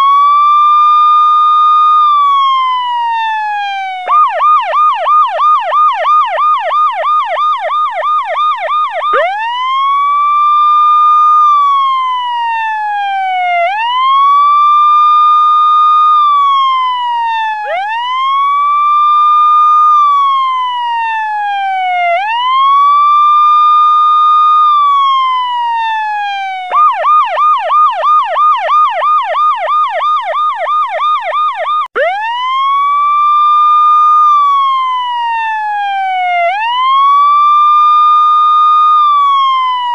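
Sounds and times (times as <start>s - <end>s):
electronic siren yelp and wail: 0.0s - 39.9s.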